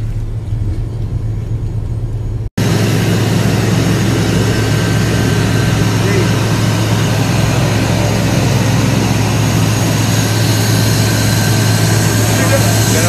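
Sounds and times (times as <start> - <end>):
aircraft engine noise with hiss: 0.0 - 13.0
jet cabin drone: 0.0 - 13.0.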